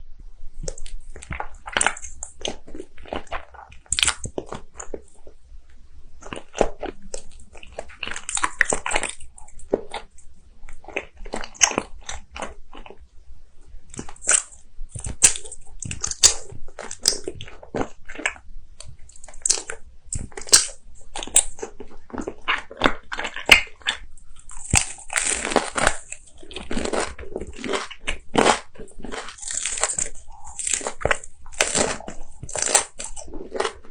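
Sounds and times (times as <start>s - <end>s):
crunchy eating: 0.6s - 5.4s, 6.2s - 13.0s, 13.9s - 33.9s.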